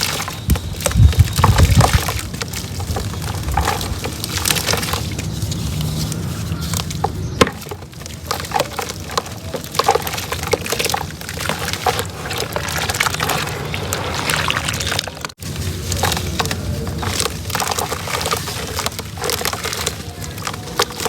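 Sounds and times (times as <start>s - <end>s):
cement crumbling: 0.0s - 21.0s.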